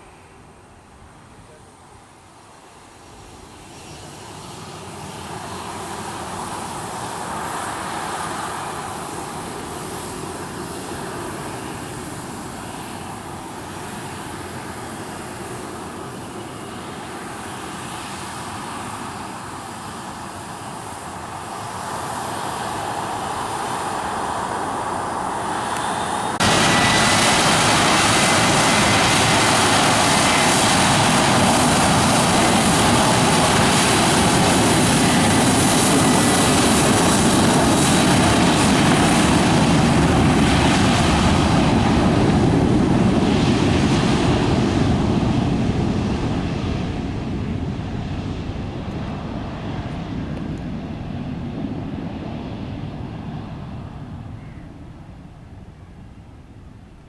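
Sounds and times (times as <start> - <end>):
jet engines running: 2.4 - 57.0.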